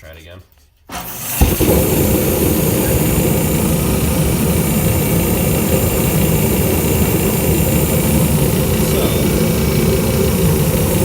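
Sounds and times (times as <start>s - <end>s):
heater fan and burner rumbling: 0.8s - 11.0s.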